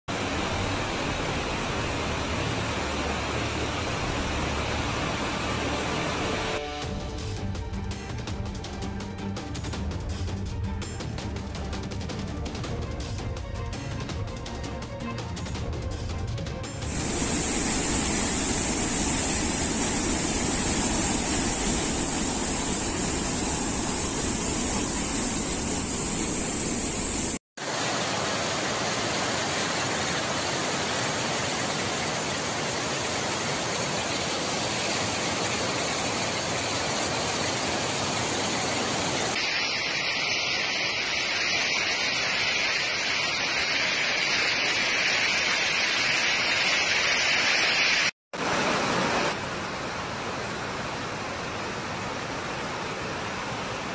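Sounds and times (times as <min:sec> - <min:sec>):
torrential water rushing: 0:00.1 - 0:06.8, 0:16.7 - 0:53.9.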